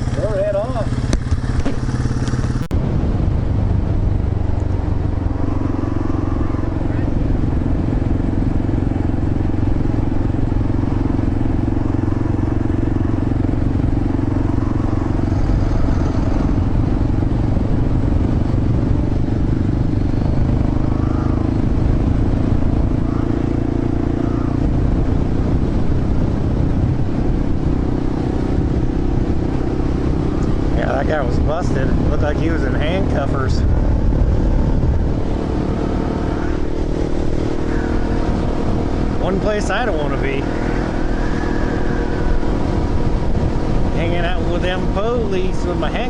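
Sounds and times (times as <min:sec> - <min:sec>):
motorcycle engine running steadily: 0:00.0 - 0:46.0.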